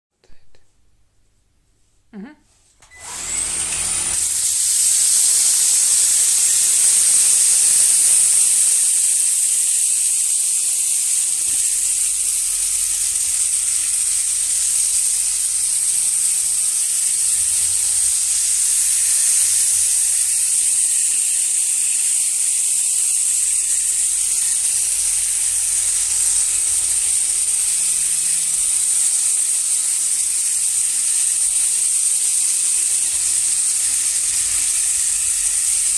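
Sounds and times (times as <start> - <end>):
vacuum cleaner motor whining: 2.8 - 35.9.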